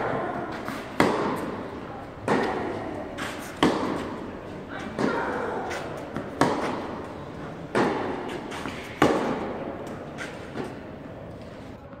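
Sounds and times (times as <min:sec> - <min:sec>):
rackets hitting tennis balls: 0:00.0 - 0:12.0.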